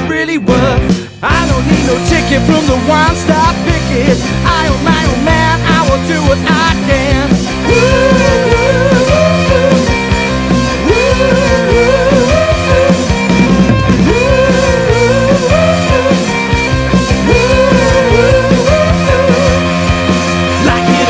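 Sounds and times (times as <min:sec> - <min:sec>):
rock music with lead guitar: 0:00.0 - 0:21.0.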